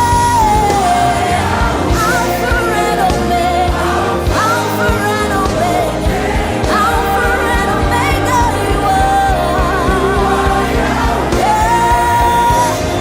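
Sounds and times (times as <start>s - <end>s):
band with drums and bass: 0.0s - 13.0s
person singing: 0.0s - 13.0s.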